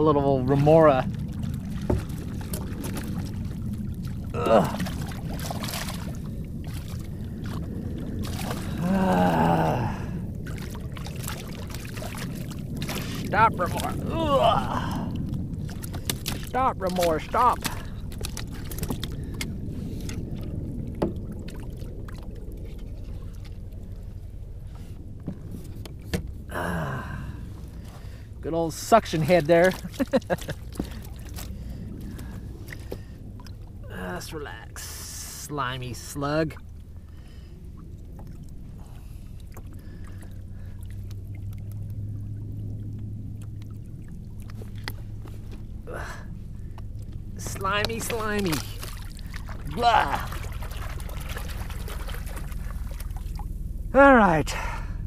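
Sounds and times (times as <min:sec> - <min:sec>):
water lapping against a hull: 0:00.0 - 0:55.0
wind rumble: 0:00.0 - 0:55.0.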